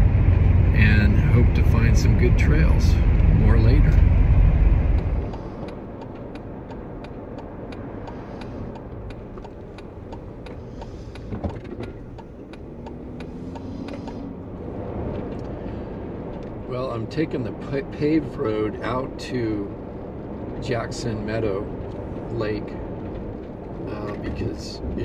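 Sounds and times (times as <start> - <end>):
road and engine noise: 0.0 - 25.0.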